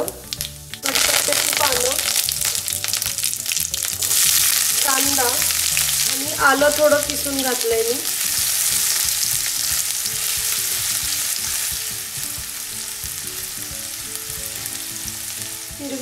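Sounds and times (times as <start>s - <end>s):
food sizzling in hot oil: 0.0s - 16.0s
spatula stirring in pan: 2.2s - 15.8s.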